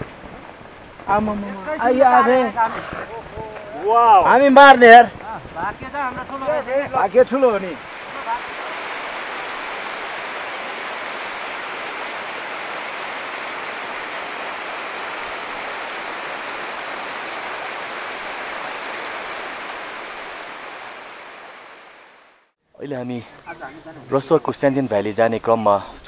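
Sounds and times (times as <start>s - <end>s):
waterfalls rushing down rock: 0.0s - 22.4s.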